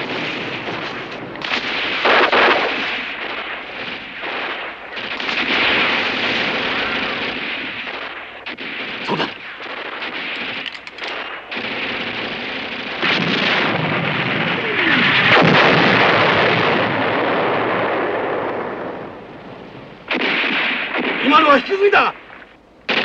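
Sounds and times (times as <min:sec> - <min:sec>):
artillery gun firing: 0:00.0 - 0:23.0
gunfire burst: 0:00.0 - 0:23.0
shell exploding: 0:00.0 - 0:23.0.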